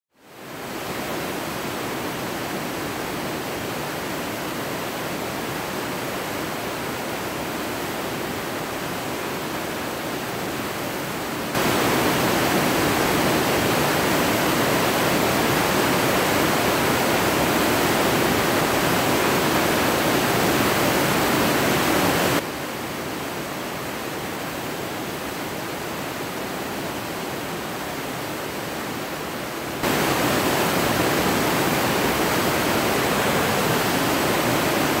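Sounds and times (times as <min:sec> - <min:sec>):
whitewater river roaring: 0:00.4 - 0:35.0.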